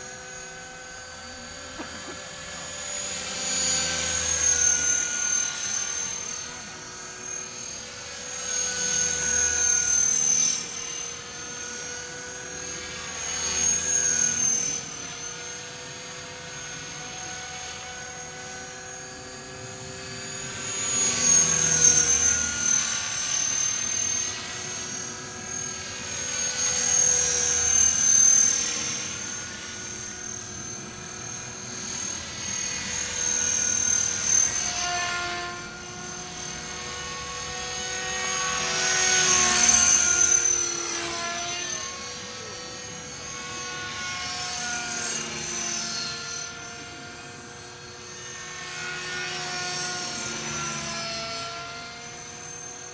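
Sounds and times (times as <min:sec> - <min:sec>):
model helicopter rotor: 0:00.0 - 0:52.9.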